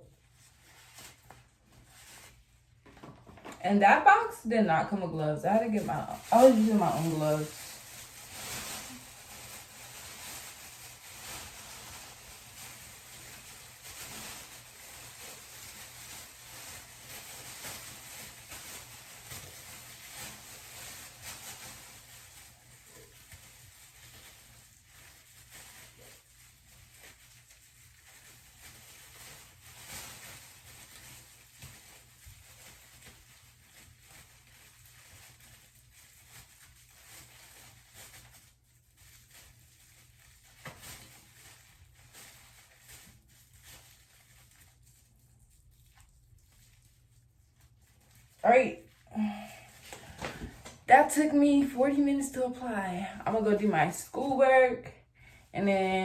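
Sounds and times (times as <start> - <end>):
gloved hands squishing hair dye: 3.6 - 56.0.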